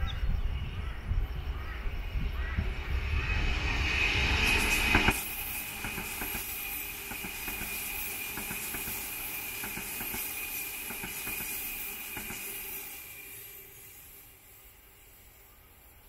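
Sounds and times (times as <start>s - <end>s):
electric train rolling past: 0.0s - 16.0s.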